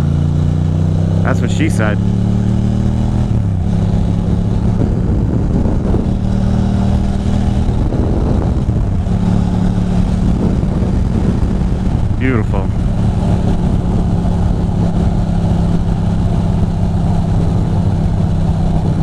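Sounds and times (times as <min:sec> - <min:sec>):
motorcycle engine droning: 0:00.0 - 0:19.0
wind rush: 0:03.2 - 0:19.0.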